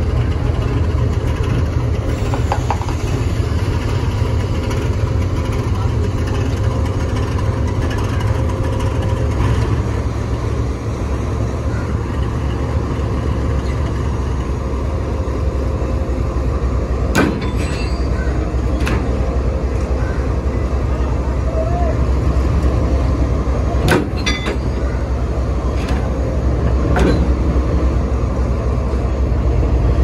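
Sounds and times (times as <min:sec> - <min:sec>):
diesel locomotive engine rumbling: 0:00.0 - 0:30.0.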